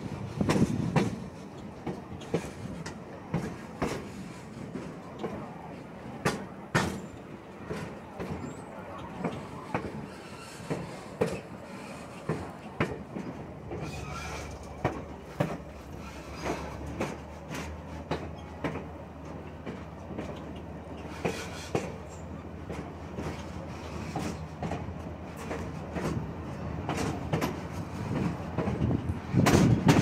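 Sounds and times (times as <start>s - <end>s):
low rumble of train rolling: 0.0s - 30.0s
train wheels clacking over rail joints: 0.0s - 30.0s.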